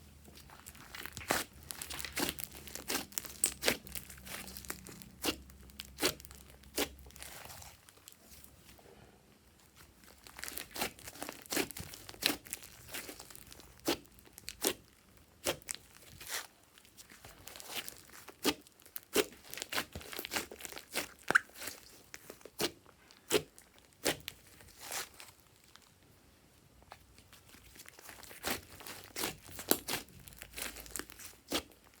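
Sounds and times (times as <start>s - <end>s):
slime squished by hand: 0.3s - 8.4s, 10.0s - 25.8s, 26.9s - 32.0s.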